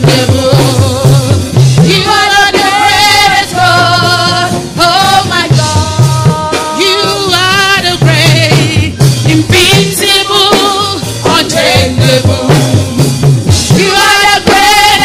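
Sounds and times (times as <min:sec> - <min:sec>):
live gospel music: 0:00.0 - 0:15.0.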